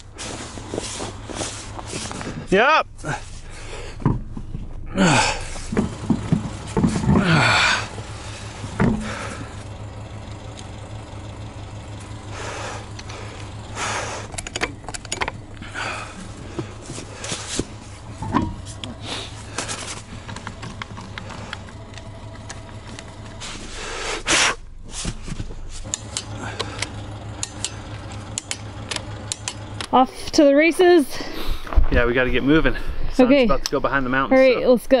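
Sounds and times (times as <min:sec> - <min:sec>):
engine humming: 0:00.0 - 0:35.0
tire crunching and scraping in snow: 0:00.0 - 0:35.0.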